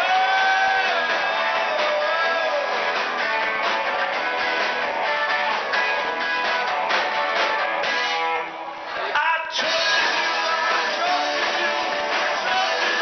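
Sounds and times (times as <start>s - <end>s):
electric guitar strumming: 0.0s - 8.8s, 9.6s - 13.0s
live rock band playing: 0.0s - 13.0s.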